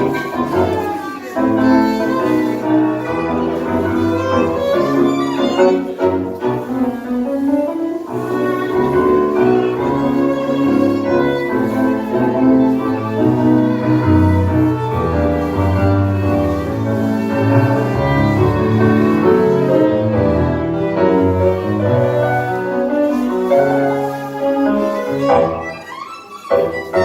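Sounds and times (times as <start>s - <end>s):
piano accompaniment: 0.0s - 27.0s
violin: 0.0s - 27.0s.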